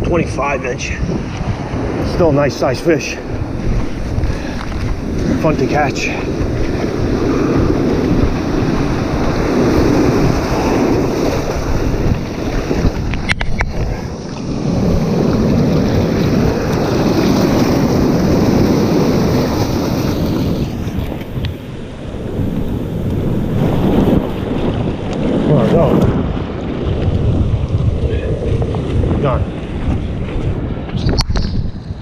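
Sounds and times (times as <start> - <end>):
ocean surf washing: 0.0 - 32.0
wind buffeting microphone: 0.0 - 32.0.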